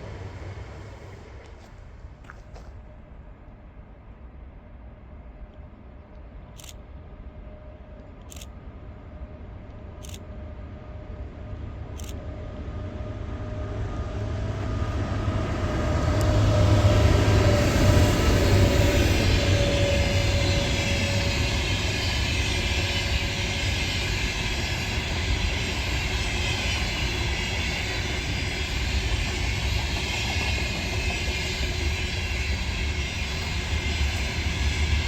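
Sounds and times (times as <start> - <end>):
train rumble and whine: 0.0 - 35.0.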